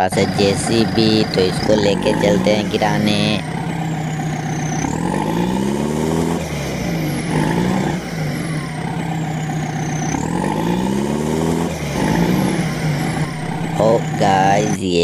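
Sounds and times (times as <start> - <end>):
steady engine hum: 0.0 - 15.0
truck engine revving: 0.0 - 15.0.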